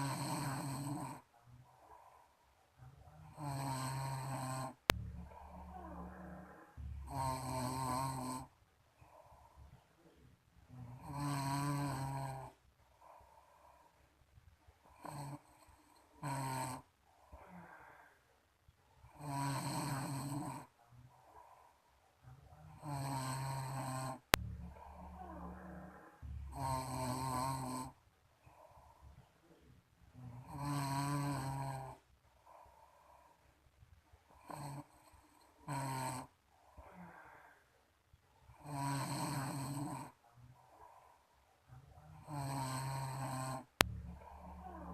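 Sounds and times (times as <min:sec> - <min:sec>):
person snoring: 0:00.0 - 0:02.3, 0:03.2 - 0:09.6, 0:10.7 - 0:13.9, 0:14.9 - 0:18.2, 0:19.1 - 0:21.8, 0:22.6 - 0:29.1, 0:30.2 - 0:33.4, 0:34.3 - 0:37.6, 0:38.5 - 0:41.2, 0:42.1 - 0:44.9
quiet breathing: 0:00.0 - 0:44.9.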